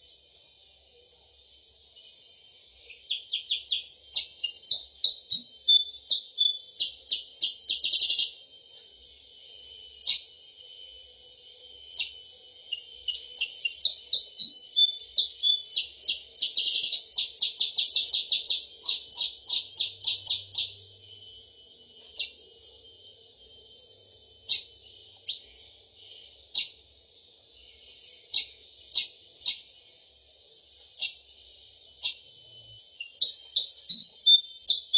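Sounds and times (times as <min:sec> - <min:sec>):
songbird high chirps: 0:00.0 - 0:34.9
steady high-pitched drone: 0:00.0 - 0:34.9.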